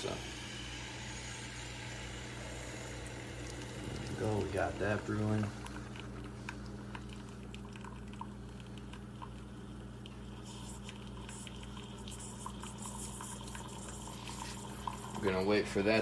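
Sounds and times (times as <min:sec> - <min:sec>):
espresso dripping into cup: 0:00.0 - 0:16.0
espresso machine pump hum: 0:00.0 - 0:16.0.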